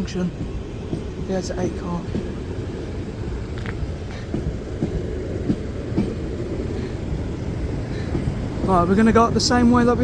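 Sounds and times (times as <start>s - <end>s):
train rumbling: 0.0s - 10.0s
train wheels clicking: 0.0s - 10.0s.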